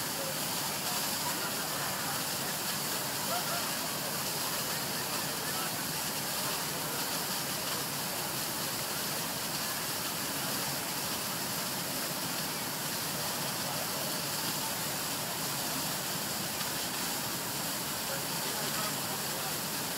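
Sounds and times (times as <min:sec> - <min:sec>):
hissing rush of water and steam: 0:00.0 - 0:19.9.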